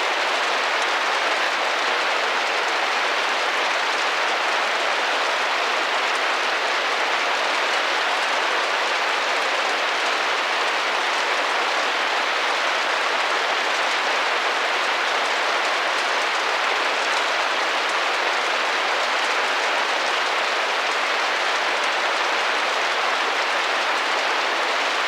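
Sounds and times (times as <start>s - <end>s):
rain on a window pane: 0.0s - 25.0s.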